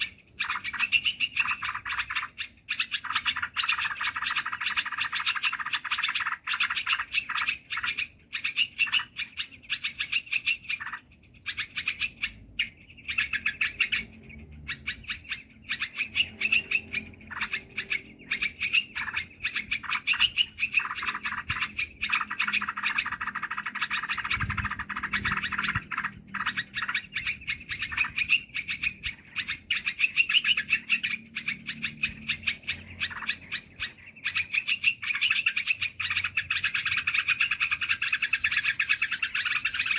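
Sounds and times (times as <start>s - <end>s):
birds chirping and chattering: 0.0s - 39.9s.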